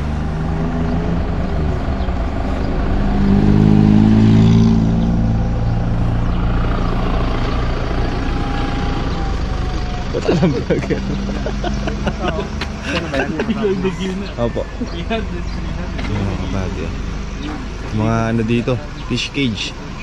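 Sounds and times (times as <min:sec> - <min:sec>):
vehicle engine running: 0:00.0 - 0:20.0
vehicle passing on road: 0:00.0 - 0:20.0.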